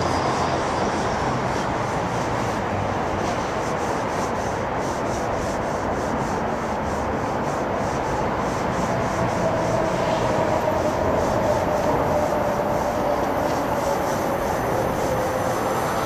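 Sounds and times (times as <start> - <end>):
train rushing rail noise: 0.0 - 16.0
train whine: 0.0 - 16.0.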